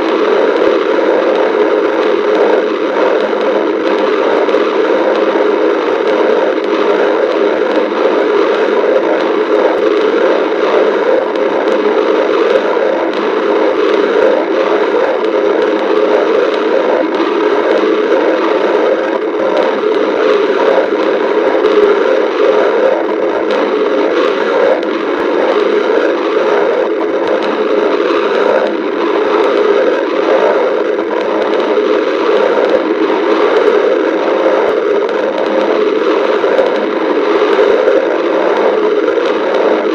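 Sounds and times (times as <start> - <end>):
stomach growling: 0.0 - 39.9.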